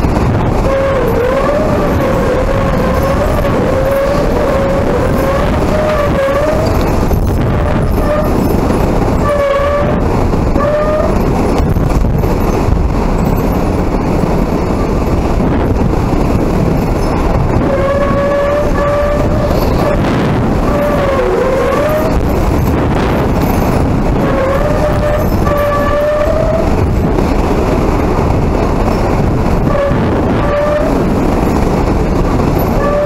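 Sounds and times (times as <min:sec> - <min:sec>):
strong wind blowing: 0:00.0 - 0:33.0
wavering wind howl: 0:00.0 - 0:33.0.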